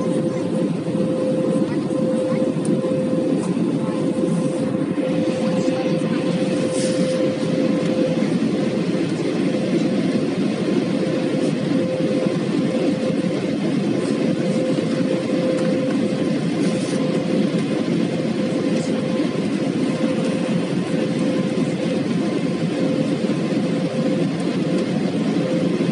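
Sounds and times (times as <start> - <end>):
constant hum: 0.0 - 25.9
engine and airflow roar: 0.0 - 25.9.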